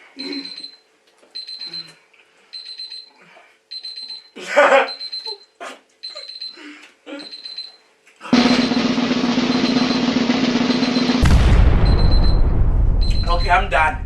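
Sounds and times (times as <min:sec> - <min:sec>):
electronic alarm beeping: 0:00.2 - 0:00.8, 0:01.4 - 0:02.0, 0:02.6 - 0:06.6, 0:07.2 - 0:07.8, 0:08.4 - 0:14.0.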